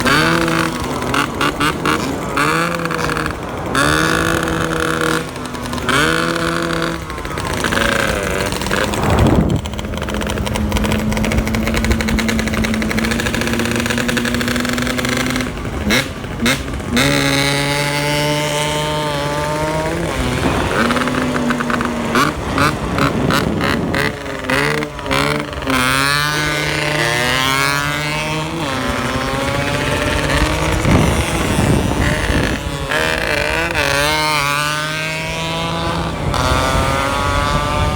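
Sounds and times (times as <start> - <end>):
exhaust crackles: 0.0 - 37.9
two-stroke engine revving: 0.0 - 37.9.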